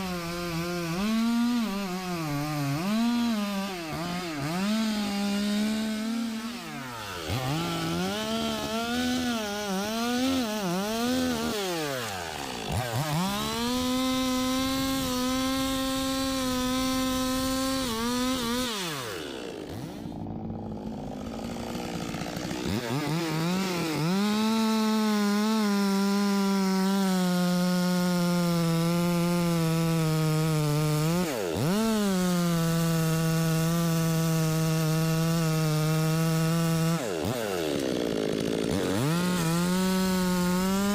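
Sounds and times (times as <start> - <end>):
chainsaw cutting wood: 0.0 - 40.9
chainsaw revving: 0.0 - 40.9.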